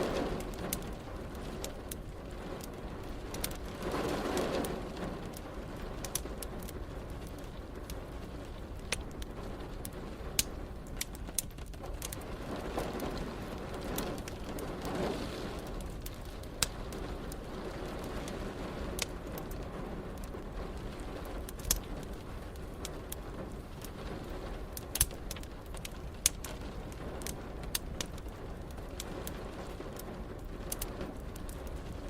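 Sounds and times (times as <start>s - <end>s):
steady hiss of rain: 0.0s - 32.0s
wood fire crackling: 0.0s - 32.0s.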